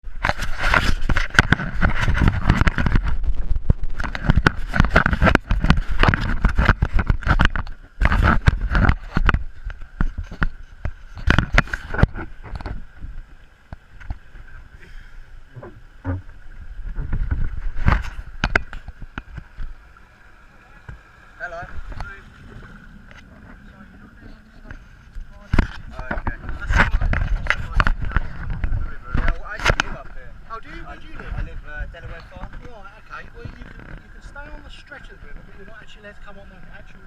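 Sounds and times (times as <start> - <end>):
microphone rumble: 0.0 - 19.8, 20.8 - 37.0
paddle splashing and knocking boat: 0.0 - 37.0.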